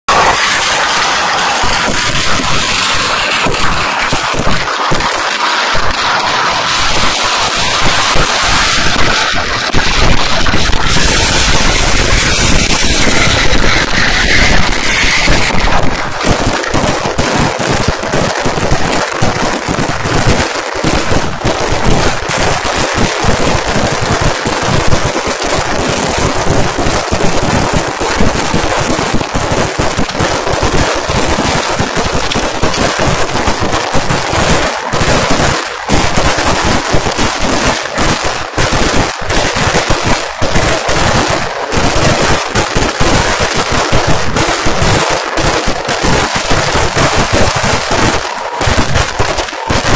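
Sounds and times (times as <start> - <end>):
rapid firecracker explosions: 0.0 - 49.9.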